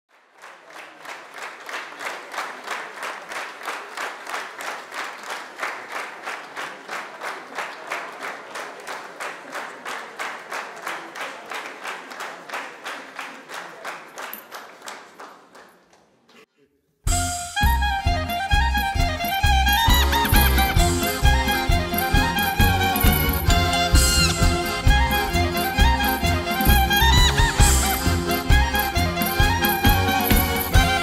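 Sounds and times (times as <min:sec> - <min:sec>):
audience clapping in rhythm: 0:00.1 - 0:16.5, 0:17.6 - 0:31.0.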